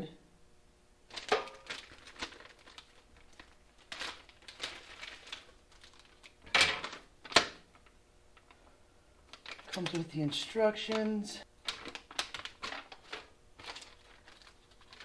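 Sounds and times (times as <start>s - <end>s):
plastic bag and paper rustling: 1.1s - 8.6s, 9.3s - 15.0s.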